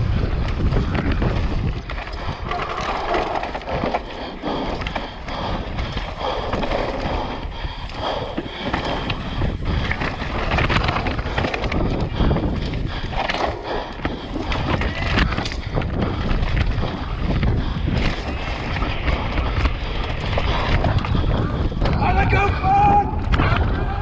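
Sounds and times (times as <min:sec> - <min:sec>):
tyres rolling on dirt: 0:00.0 - 0:22.4
bike rattling over bumps: 0:00.0 - 0:24.0
wind rushing over microphone: 0:00.0 - 0:24.0.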